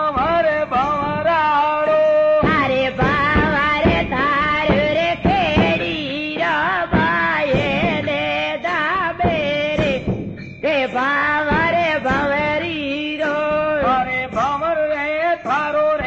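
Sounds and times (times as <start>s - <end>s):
drum strokes: 0.0s - 16.0s
person singing folk song: 0.0s - 16.0s.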